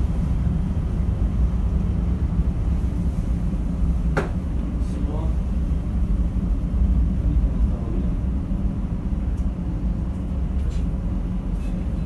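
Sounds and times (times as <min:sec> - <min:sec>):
rough sea rumble: 0:00.0 - 0:12.0.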